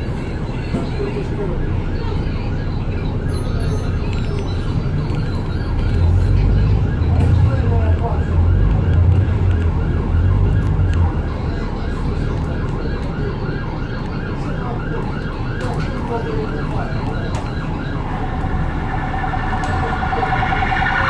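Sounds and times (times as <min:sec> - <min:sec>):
emergency siren yelping: 0:00.0 - 0:21.0
low traffic rumble: 0:00.0 - 0:21.0.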